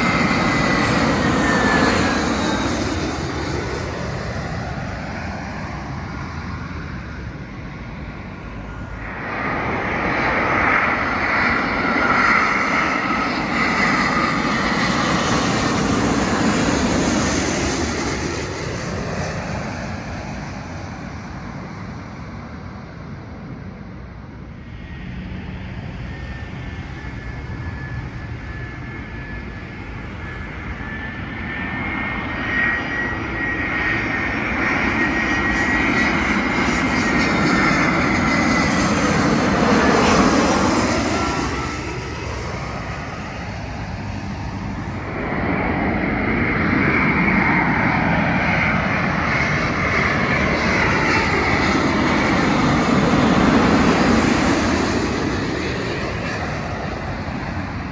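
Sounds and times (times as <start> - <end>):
jet airliner passing overhead: 0.0 - 57.9.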